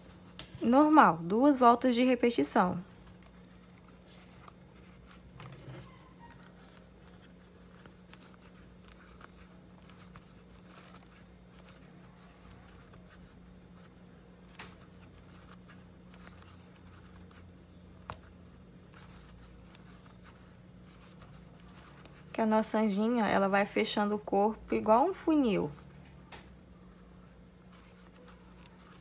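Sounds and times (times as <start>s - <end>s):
yarn rustling: 0.0s - 23.3s
steady low hum: 0.0s - 29.0s.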